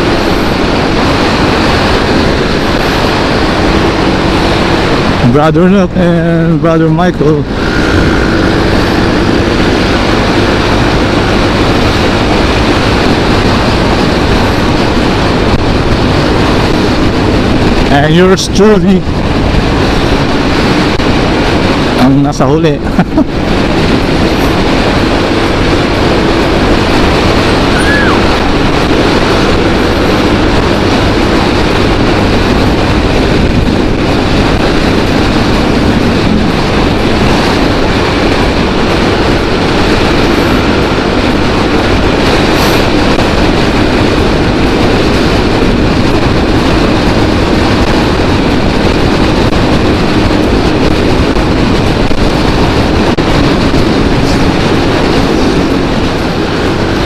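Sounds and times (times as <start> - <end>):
motorcycle engine drone: 0.0 - 57.0
wind and road noise: 0.0 - 57.0.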